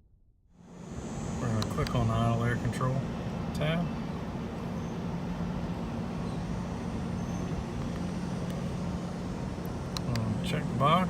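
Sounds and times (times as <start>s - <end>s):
outboard engine idling: 0.6s - 11.0s.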